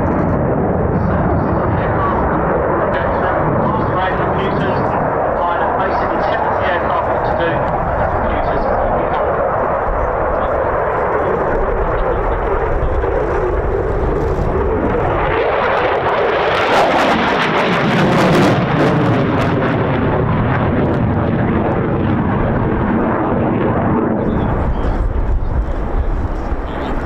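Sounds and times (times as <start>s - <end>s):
fighter jet roaring: 0.0s - 27.0s.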